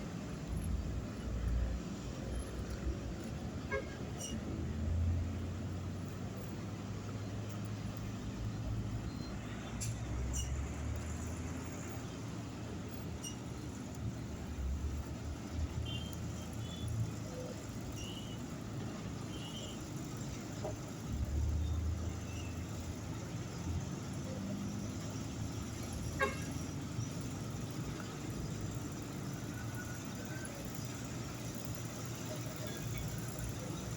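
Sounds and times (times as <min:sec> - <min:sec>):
heavy road traffic rumble: 0:00.0 - 0:33.9.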